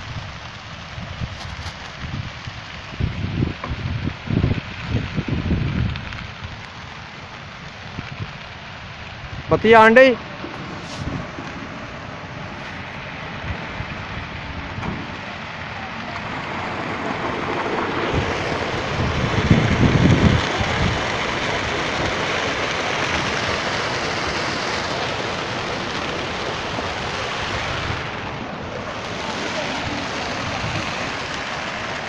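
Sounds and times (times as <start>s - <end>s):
fire crackling: 0.0s - 32.0s
wind buffeting microphone: 0.0s - 32.0s.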